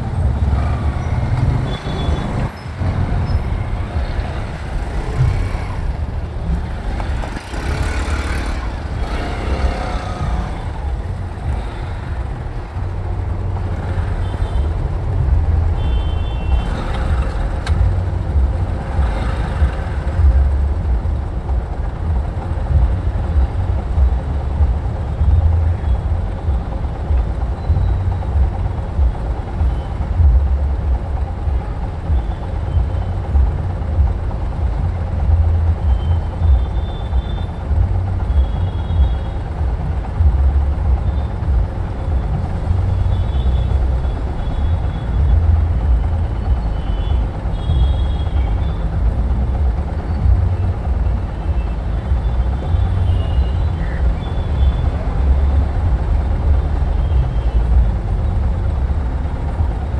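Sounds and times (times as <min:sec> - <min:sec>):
motorcycle running: 0:00.0 - 0:59.9
road noise: 0:00.0 - 0:59.9.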